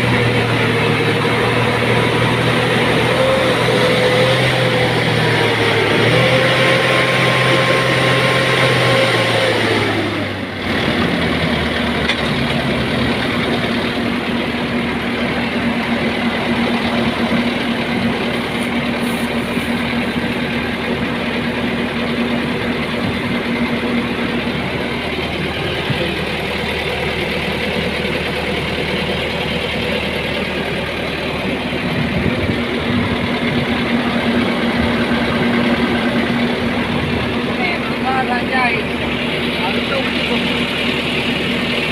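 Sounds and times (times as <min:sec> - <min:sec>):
motor engine running: 0:00.0 - 0:41.9.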